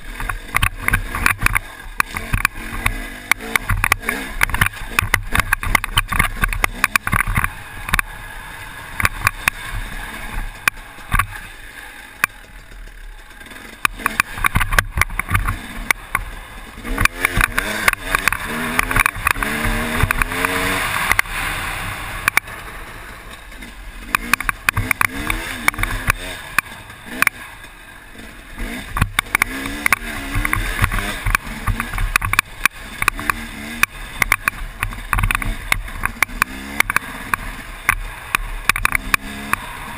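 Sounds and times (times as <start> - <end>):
two-stroke motorcycle engine revving: 0.0 - 39.9
rushing noise: 2.6 - 35.1.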